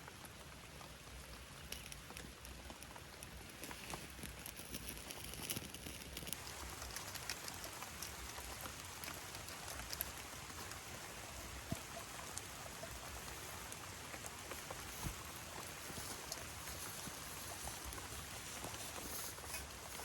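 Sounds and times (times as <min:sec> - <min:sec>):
raindrop ticks: 0:00.0 - 0:20.0
steady rain hiss: 0:00.0 - 0:20.0.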